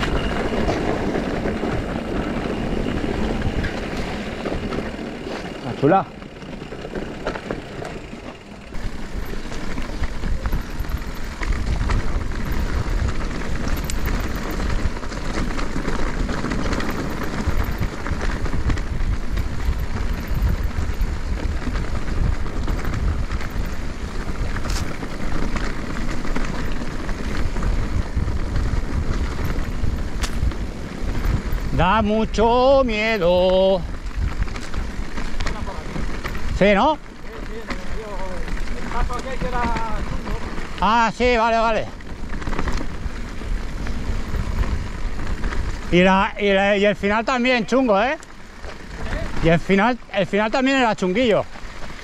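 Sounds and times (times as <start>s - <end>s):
sharp clicks and rattles: 0.0s - 52.0s
tyres running over dirt and rock: 0.0s - 52.0s
wind buffeting microphone: 0.0s - 52.0s.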